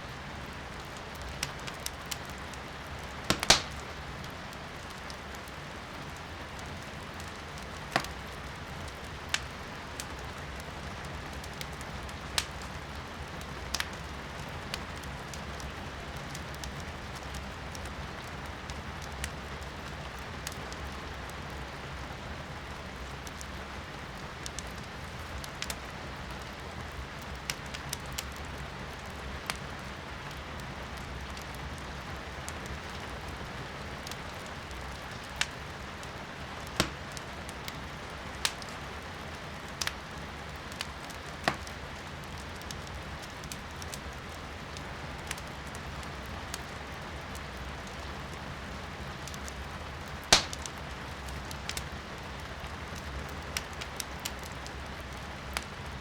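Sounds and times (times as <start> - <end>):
firewood crackling and popping: 0.2 - 56.0.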